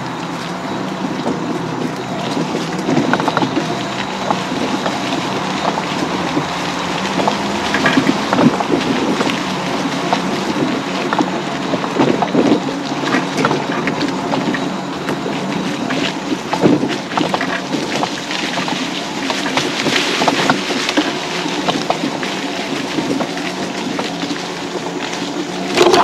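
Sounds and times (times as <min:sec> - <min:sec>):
clicks and clatter over bumps: 0:00.0 - 0:26.0
electric scooter motor whine: 0:00.0 - 0:26.0.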